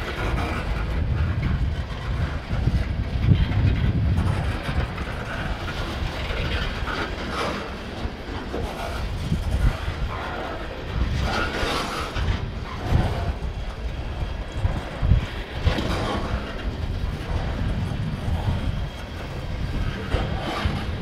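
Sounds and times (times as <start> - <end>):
clack over rail joint: 0.0 - 21.0
train wheels rumbling on rails: 0.0 - 21.0.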